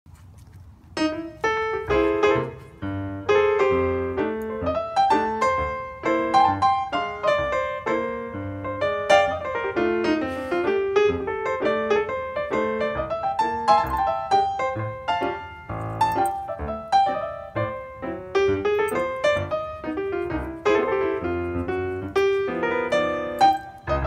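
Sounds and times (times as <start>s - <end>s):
lively piano tune: 0.9s - 24.0s.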